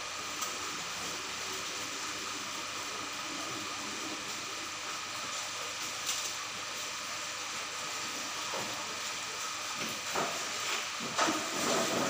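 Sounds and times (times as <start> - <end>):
aquarium water hissing: 0.0 - 12.0.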